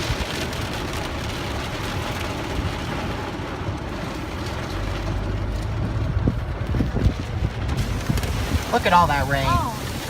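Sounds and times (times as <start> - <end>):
car road noise rumble: 0.0 - 10.0
heavy rain on car: 0.0 - 10.0.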